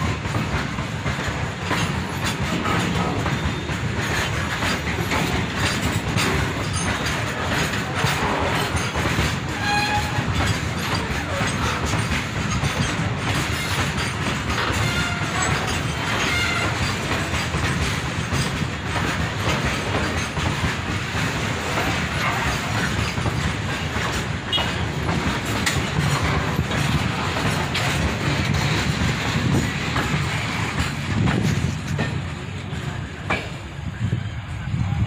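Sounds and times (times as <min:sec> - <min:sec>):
freight train wheels clattering: 0:00.0 - 0:35.0.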